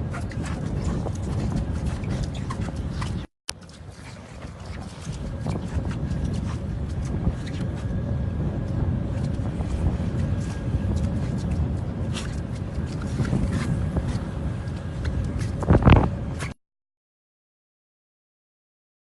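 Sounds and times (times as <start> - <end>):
boat engine running: 0.0 - 16.6
wind on microphone: 0.0 - 16.6.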